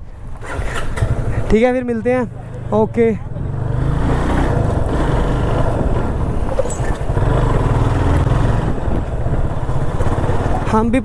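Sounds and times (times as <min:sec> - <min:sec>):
wind and road noise: 0:00.0 - 0:11.0
motorcycle engine running: 0:00.2 - 0:11.0.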